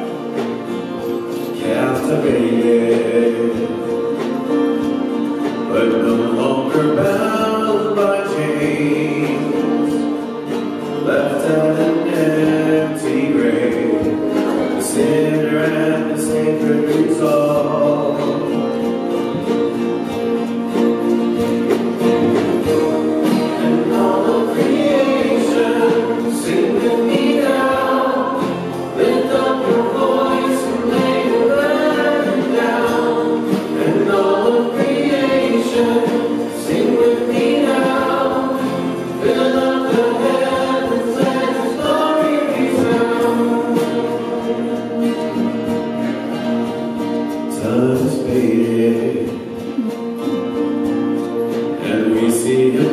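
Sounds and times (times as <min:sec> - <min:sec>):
choir singing: 0:00.0 - 0:50.8.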